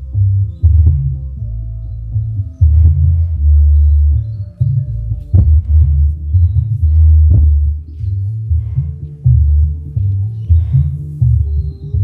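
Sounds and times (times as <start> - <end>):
bass-heavy music through speakers: 0.0 - 12.0.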